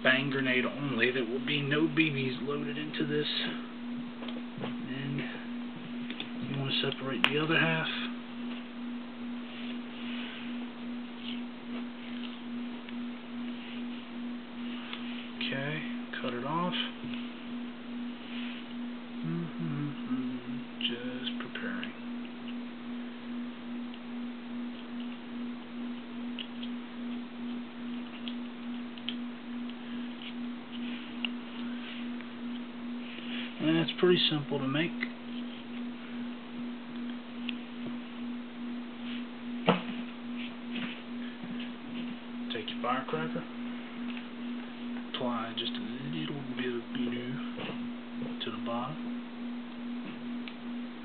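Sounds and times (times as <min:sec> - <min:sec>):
low electrical hum: 0:00.0 - 0:51.0.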